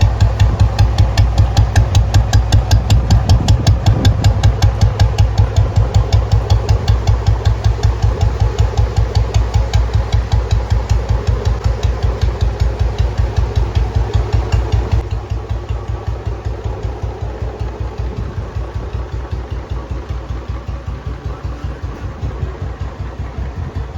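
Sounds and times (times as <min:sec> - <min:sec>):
motorcycle engine idling: 0:00.0 - 0:23.9
sharp engine ticks: 0:00.0 - 0:23.9.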